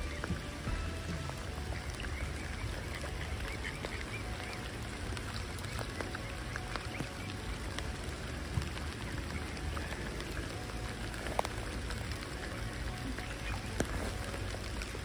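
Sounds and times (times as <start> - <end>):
raindrops pattering: 0.0 - 15.0
steady rain: 0.0 - 15.0.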